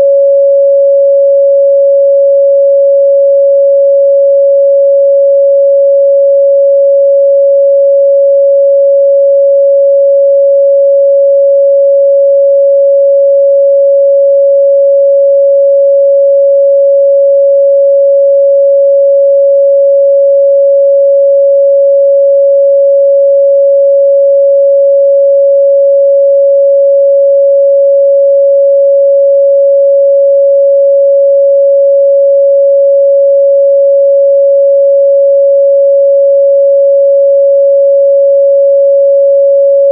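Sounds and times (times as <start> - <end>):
steady sine test tone: 0.0 - 39.9.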